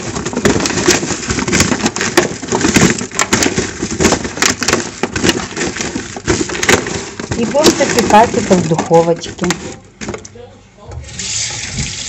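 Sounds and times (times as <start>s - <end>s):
vegetable pieces clattering in bowl: 0.0s - 10.2s.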